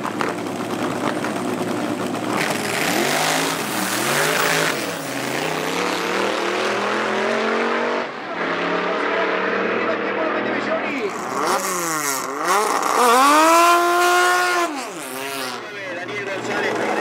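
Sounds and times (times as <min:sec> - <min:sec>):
drag racing car accelerating: 0:00.0 - 0:17.0.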